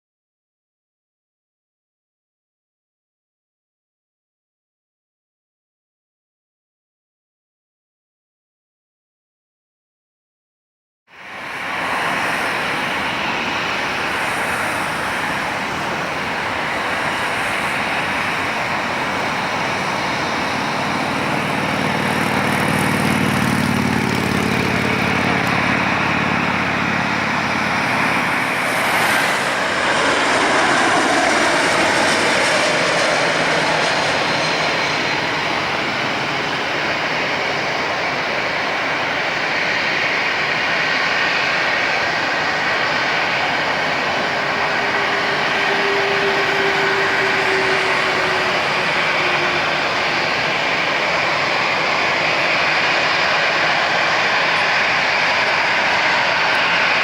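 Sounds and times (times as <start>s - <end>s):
jet engine rushing noise: 11.3s - 57.0s.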